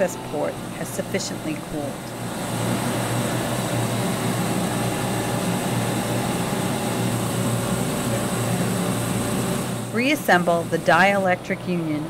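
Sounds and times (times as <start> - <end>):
fan-like rushing noise: 0.0 - 12.0
machinery low hum: 0.0 - 12.0.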